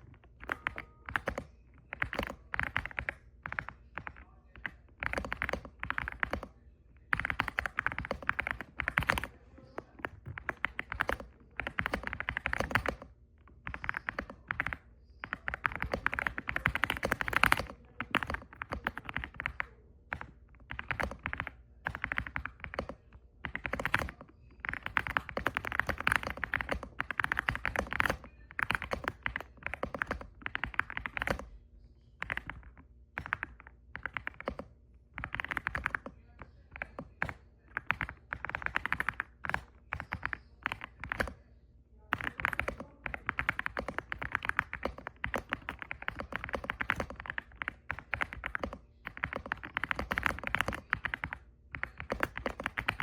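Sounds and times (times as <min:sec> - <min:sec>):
mechanical keyboard typing: 0:00.0 - 0:31.6, 0:32.2 - 0:41.4, 0:42.0 - 0:53.0.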